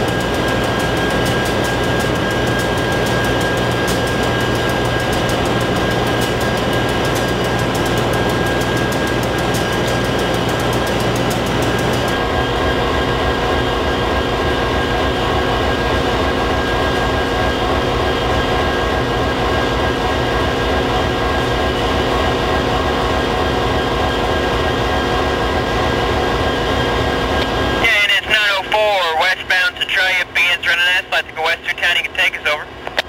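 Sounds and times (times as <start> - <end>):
diesel locomotive idling: 0.0 - 33.0.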